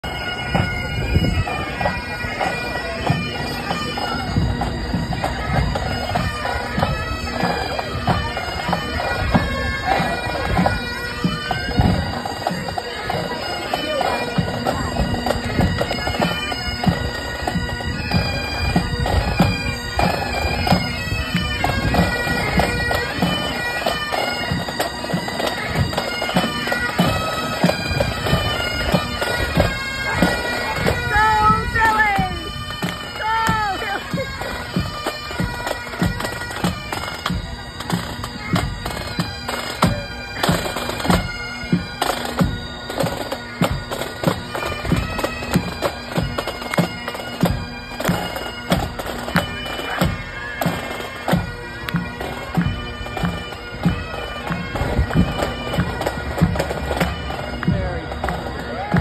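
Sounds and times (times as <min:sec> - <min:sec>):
bagpipes playing: 0:00.0 - 0:59.0.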